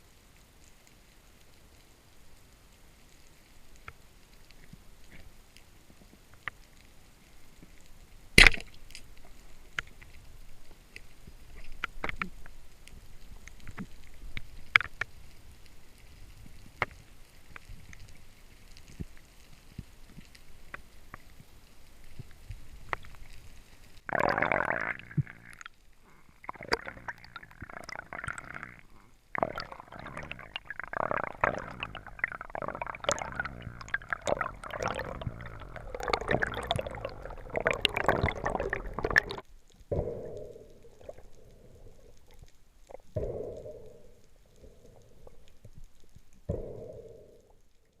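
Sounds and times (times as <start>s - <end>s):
underwater bubbling and gurgling: 0.0s - 48.0s.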